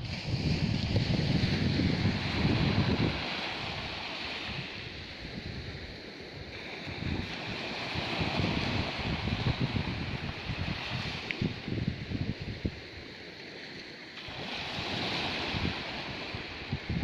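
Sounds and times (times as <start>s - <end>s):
wind buffeting microphone: 0.0s - 13.1s, 14.3s - 17.0s
sea surf: 0.0s - 17.0s.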